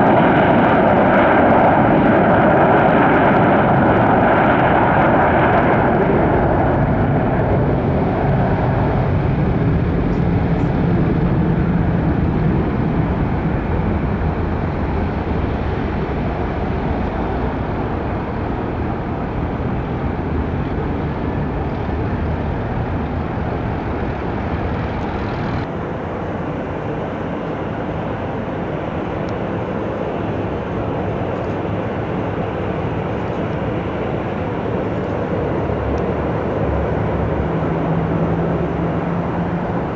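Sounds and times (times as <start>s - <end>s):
airport background roar: 0.0s - 39.9s
jet engine noise: 0.0s - 39.9s.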